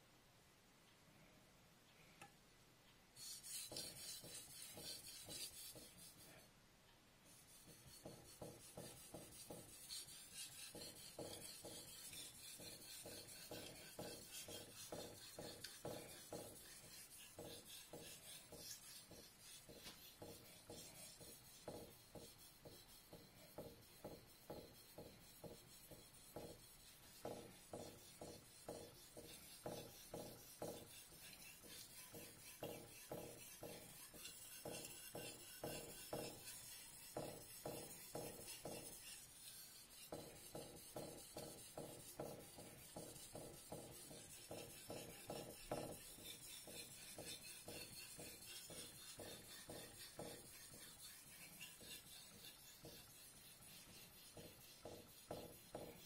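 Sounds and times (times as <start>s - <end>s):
knife scraping on whetstone: 3.2s - 6.4s, 7.4s - 56.0s.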